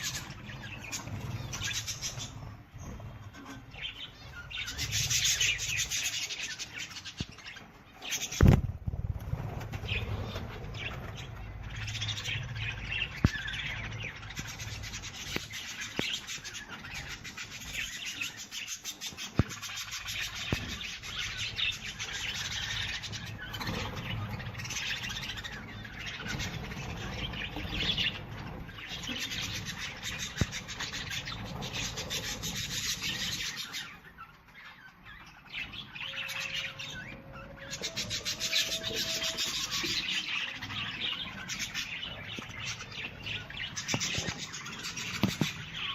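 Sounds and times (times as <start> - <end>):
birds chirping and twittering: 0.0 - 45.9.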